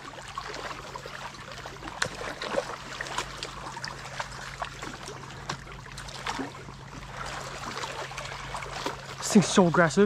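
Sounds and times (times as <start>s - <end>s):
fish splashing at water surface: 0.0s - 9.8s.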